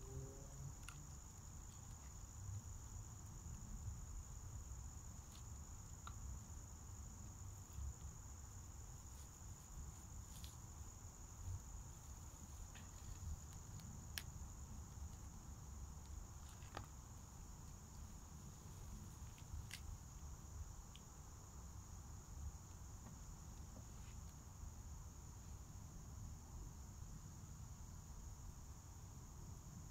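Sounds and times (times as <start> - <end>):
insects chirping chorus: 0.0 - 29.9.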